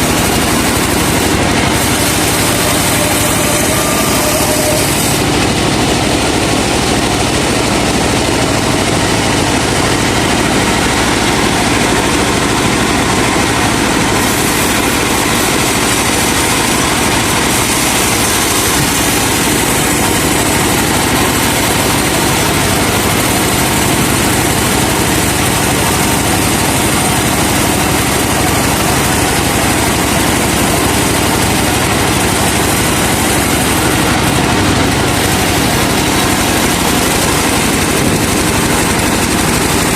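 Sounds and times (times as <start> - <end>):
log saw running: 0.0 - 39.9
truck engine running: 0.0 - 39.9.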